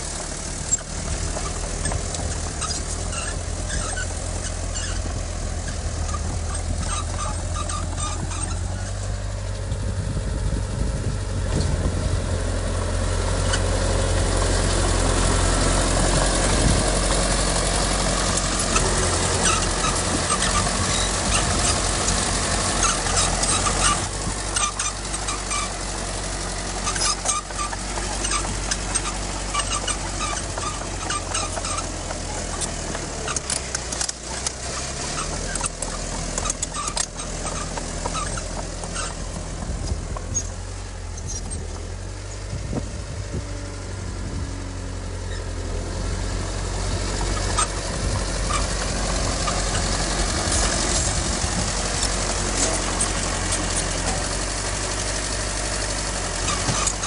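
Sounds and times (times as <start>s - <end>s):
rapid clanking and rattling: 0.0s - 43.0s, 46.4s - 57.0s
diesel earthmoving machine running: 0.0s - 57.0s.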